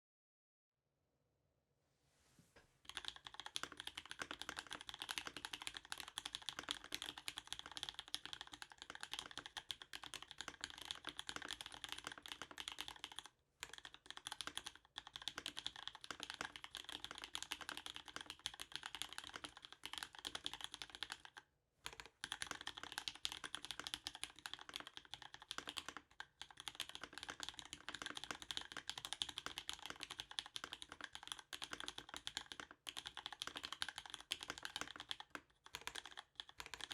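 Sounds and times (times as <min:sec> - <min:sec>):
mechanical keyboard typing: 0:02.9 - 0:36.9.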